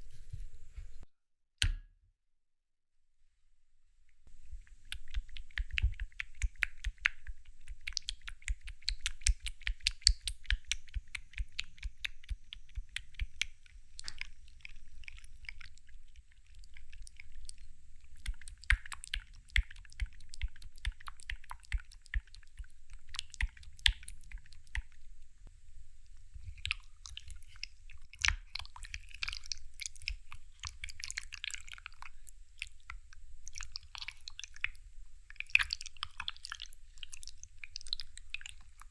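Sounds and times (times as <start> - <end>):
chewing crunchy jelly: 4.6 - 25.0, 26.4 - 38.9.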